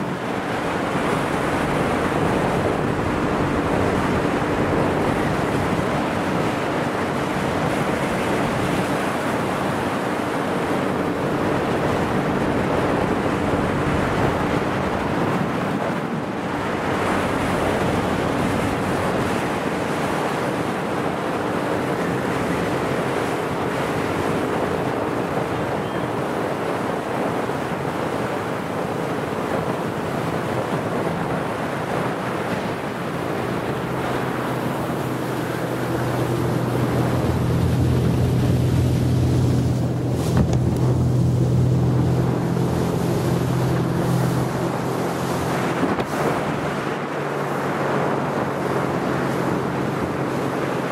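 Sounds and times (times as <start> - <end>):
faint boat engine droning: 0.0 - 50.9
water and wind rushing: 0.0 - 50.9.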